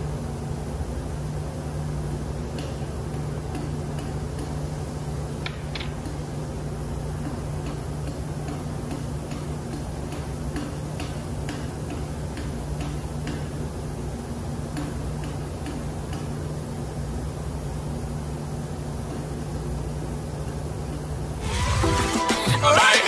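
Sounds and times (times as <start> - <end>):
low machinery hum: 0.0 - 22.1.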